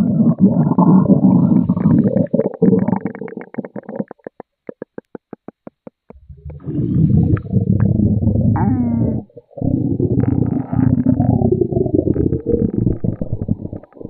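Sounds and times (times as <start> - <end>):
cartoon stomach gurgle: 0.0 - 14.0.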